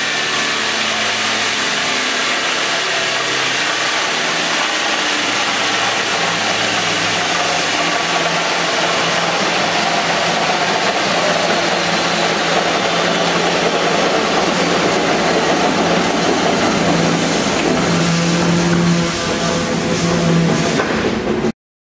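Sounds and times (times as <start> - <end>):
belt grinder running: 0.0 - 20.9.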